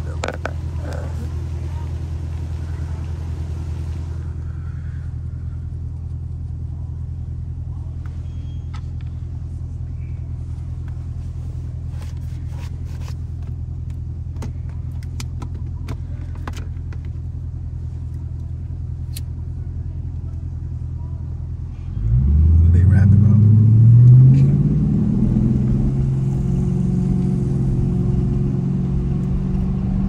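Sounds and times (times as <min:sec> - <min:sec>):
deep exhaust drone: 0:00.0 - 0:30.0.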